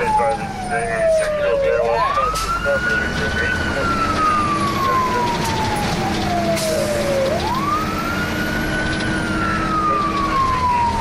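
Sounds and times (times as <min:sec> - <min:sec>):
fire engine siren wailing: 0:00.0 - 0:11.0
truck engine running: 0:00.0 - 0:11.0.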